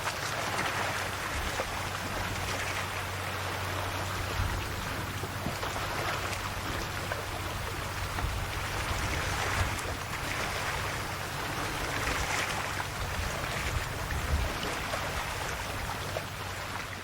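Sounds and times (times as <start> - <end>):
sea waves lapping at shore: 0.0 - 17.0.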